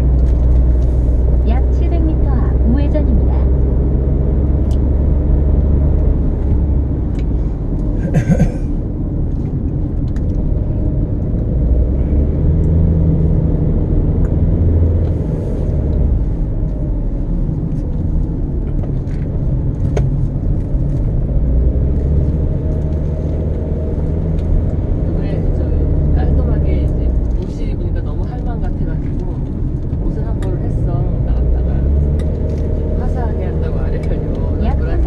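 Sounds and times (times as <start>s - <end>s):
engine and tyre rumble: 0.0s - 35.0s.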